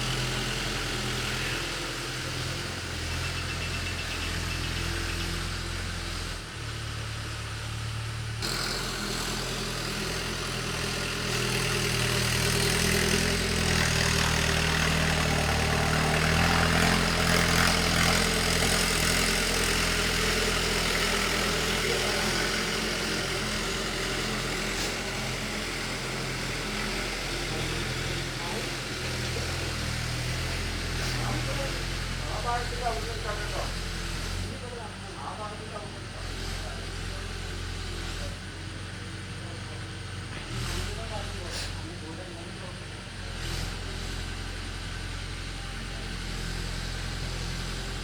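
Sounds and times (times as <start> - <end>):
ploughing machine engine running: 0.0 - 48.0.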